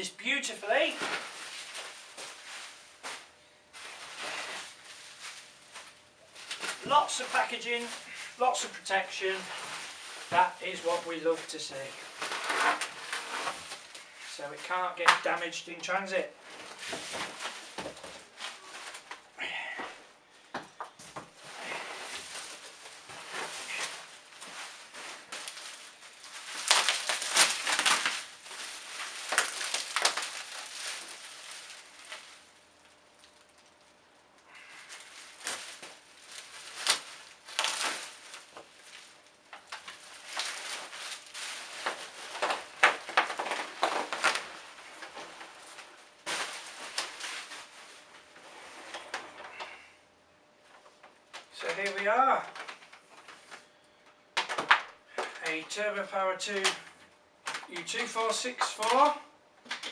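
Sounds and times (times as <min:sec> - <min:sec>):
packaging crinkling and rustling: 0:00.4 - 0:19.3, 0:21.4 - 0:49.8, 0:50.8 - 0:53.7, 0:56.4 - 0:59.9.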